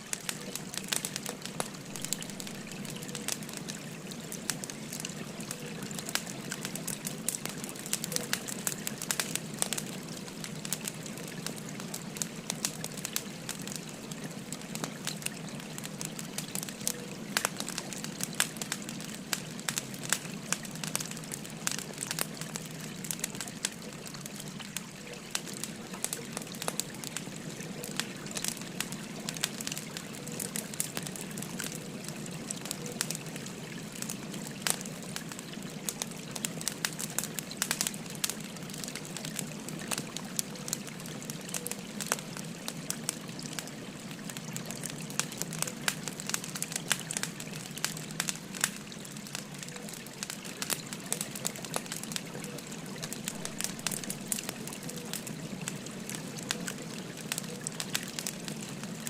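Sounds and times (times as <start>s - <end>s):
stream babbling: 0.0s - 59.0s
wood fire crackling and popping: 0.0s - 59.0s.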